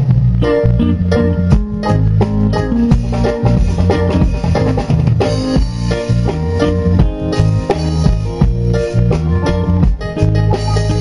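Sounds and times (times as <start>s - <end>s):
bass: 0.0s - 11.0s
drum kit beat: 0.0s - 11.0s
electric guitar: 0.0s - 11.0s.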